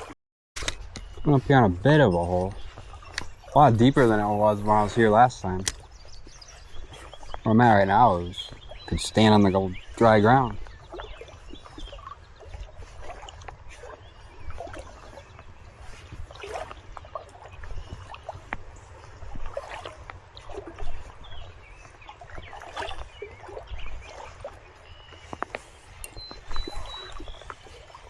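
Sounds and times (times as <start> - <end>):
river water trickling and splashing: 0.8 - 28.0.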